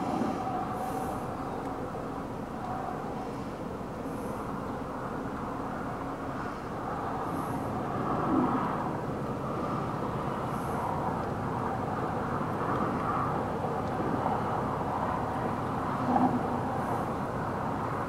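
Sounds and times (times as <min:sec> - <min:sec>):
wind rushing past microphone: 0:00.0 - 0:18.0.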